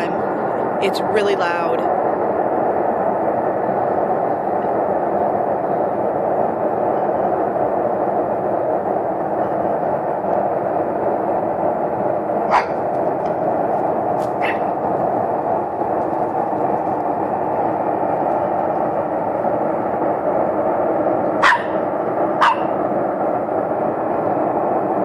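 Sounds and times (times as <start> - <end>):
loud unpitched droning: 0.0 - 25.0.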